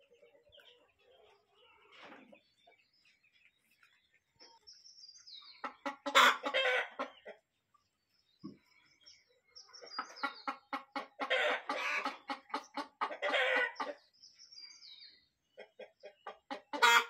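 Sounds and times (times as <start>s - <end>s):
hens clucking: 0.0s - 7.9s, 9.6s - 14.4s, 15.2s - 17.0s.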